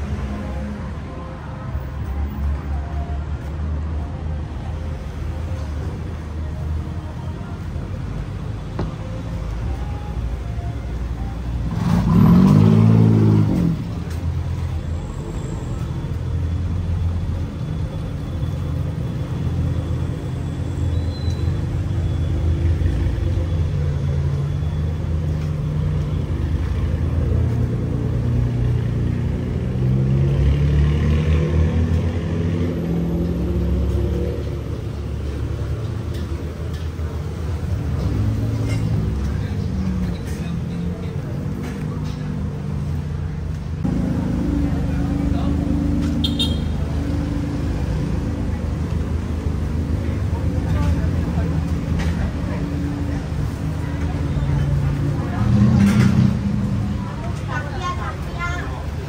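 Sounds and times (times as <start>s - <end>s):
traffic engine rumble: 0.0s - 59.0s.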